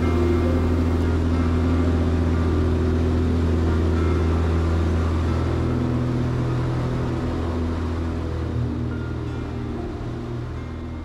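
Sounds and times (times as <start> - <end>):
airplane engine and propeller: 0.0 - 11.0.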